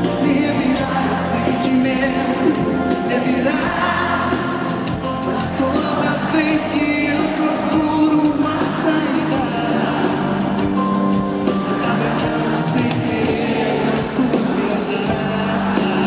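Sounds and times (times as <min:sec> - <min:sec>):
band playing pop ballad: 0:00.0 - 0:16.0
person singing: 0:00.0 - 0:16.0.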